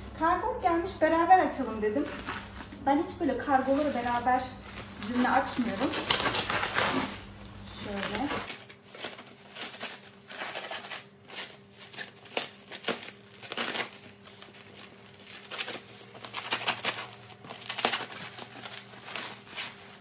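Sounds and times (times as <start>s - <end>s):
packaging crinkling and rustling: 1.7s - 20.0s.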